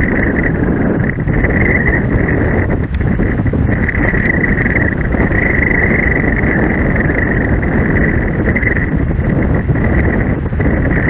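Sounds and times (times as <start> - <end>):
jet engine whine: 0.0 - 11.0
low rumble: 0.0 - 11.0
wind buffeting microphone: 0.0 - 11.0.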